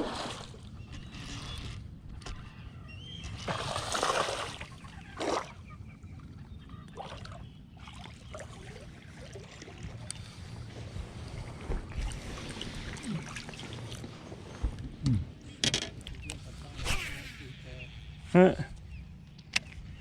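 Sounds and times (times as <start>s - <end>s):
boat engine low rumble: 0.0s - 20.0s.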